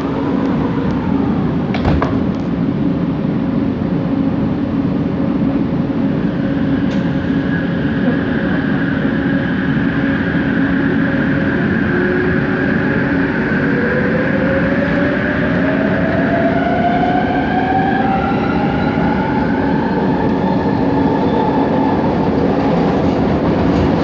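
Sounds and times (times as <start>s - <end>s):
metro train rumbling: 0.0s - 24.0s.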